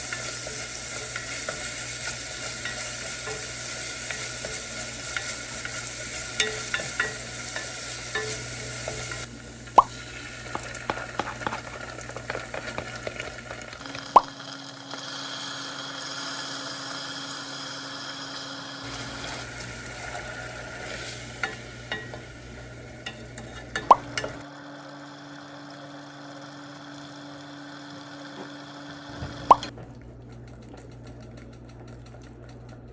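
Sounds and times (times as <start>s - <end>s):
food sizzling in a pan: 0.0s - 29.7s.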